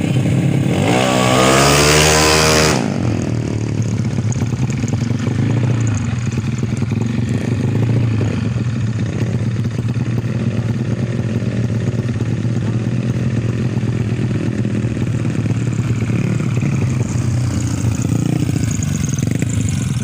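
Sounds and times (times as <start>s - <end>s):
engine rumble with clatter: 0.0s - 20.0s
scooter engine revving: 0.0s - 20.0s.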